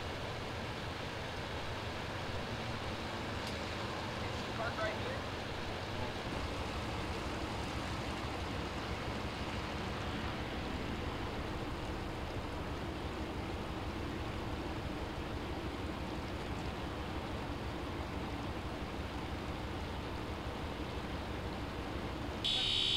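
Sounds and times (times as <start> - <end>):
water rushing along street: 0.0 - 22.9.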